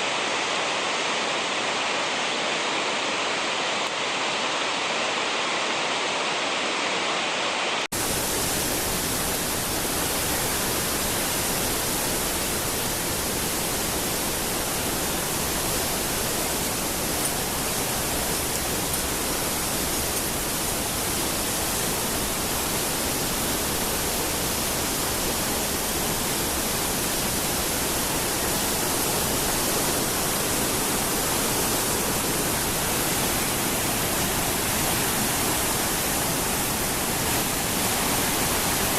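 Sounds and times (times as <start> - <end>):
rushing mountain water: 0.0 - 38.9.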